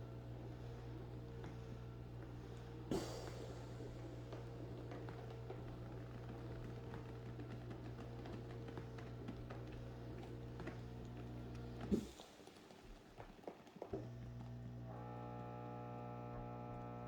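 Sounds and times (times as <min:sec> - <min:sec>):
massage chair buzzing: 0:00.0 - 0:12.2, 0:13.2 - 0:17.0.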